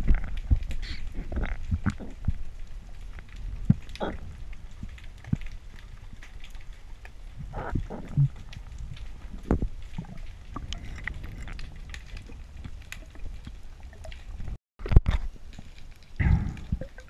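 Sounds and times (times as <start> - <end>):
sharp clicks and crackles: 0.0 - 17.0.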